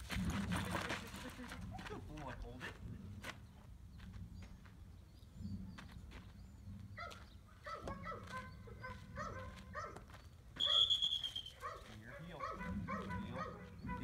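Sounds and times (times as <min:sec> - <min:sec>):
footsteps on dry dirt: 0:00.0 - 0:05.0, 0:05.7 - 0:14.0.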